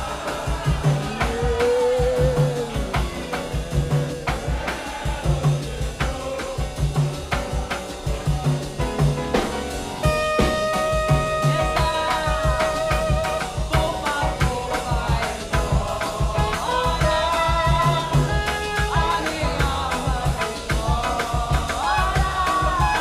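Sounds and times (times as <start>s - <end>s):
jazz music with bass and drums: 0.0s - 23.0s.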